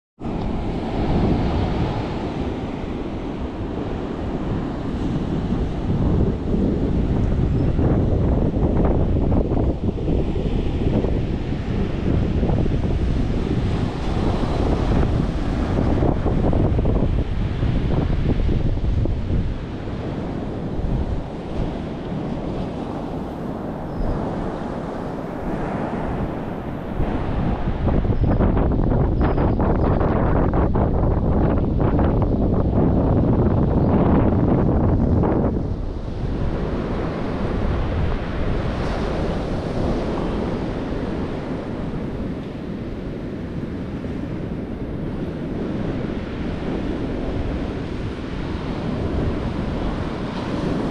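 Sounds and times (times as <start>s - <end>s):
ocean surf breaking: 0.2s - 29.7s, 34.3s - 50.9s
wind buffeting microphone: 0.2s - 50.9s.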